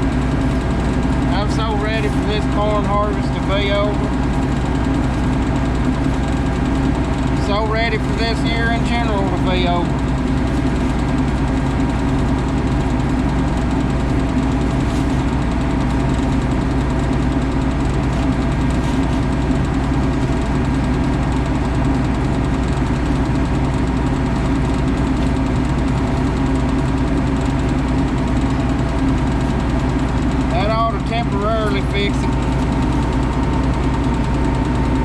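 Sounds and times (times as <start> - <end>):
farm machine engine humming: 0.0 - 35.0.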